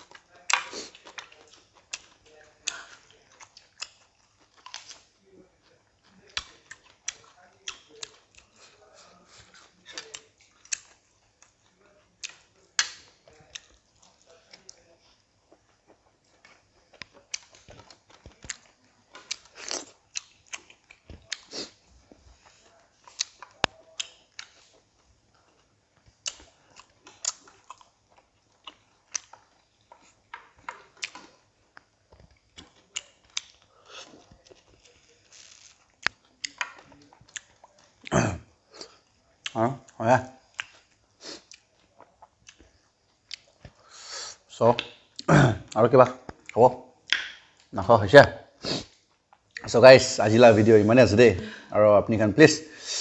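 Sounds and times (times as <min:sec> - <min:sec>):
chewing and lip smacks: 0:00.0 - 0:45.3, 0:46.2 - 0:47.8, 0:48.8 - 0:49.7.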